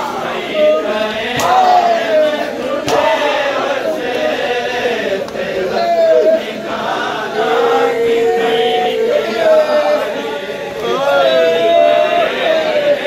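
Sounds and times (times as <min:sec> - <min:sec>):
men chanting a lament: 0:00.0 - 0:13.0.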